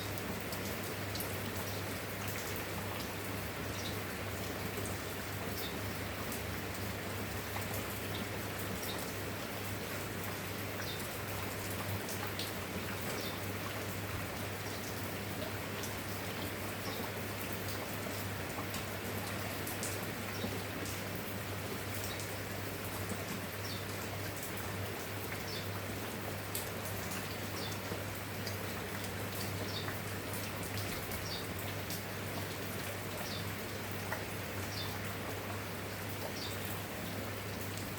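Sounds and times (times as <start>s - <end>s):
raindrops ticking on a surface: 0.0s - 37.9s
steady rain falling: 0.0s - 37.9s.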